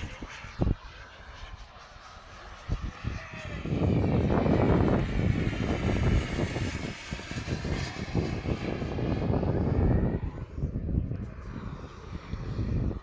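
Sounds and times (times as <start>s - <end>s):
jet engine roar with high whine: 0.0s - 13.0s.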